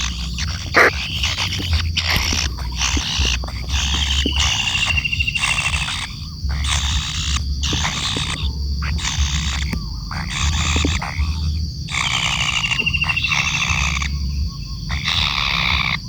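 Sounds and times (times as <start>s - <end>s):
kingfisher harsh rasping calls: 0.0s - 16.0s.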